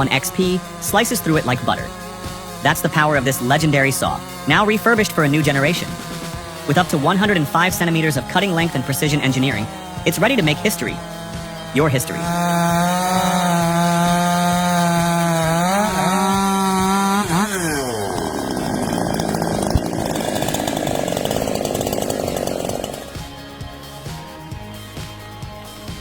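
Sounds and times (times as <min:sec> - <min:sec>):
chainsaw cutting wood: 0:00.0 - 0:26.0
chainsaw running at high revs: 0:00.0 - 0:26.0.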